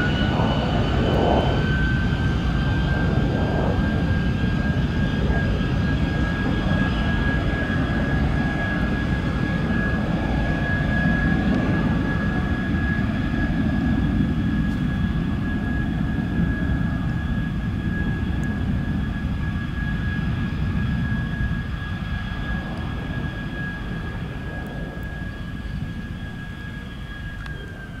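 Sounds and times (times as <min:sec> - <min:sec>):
jet engine whine and rumble: 0:00.0 - 0:28.0.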